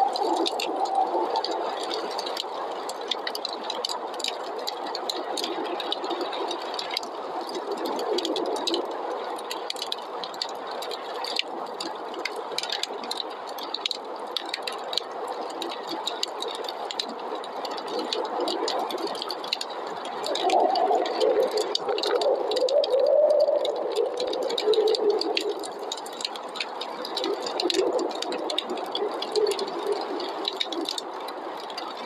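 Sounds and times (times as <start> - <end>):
whistling storm wind: 0.0 - 9.9, 15.2 - 32.0
wood fire crackling: 0.0 - 32.0.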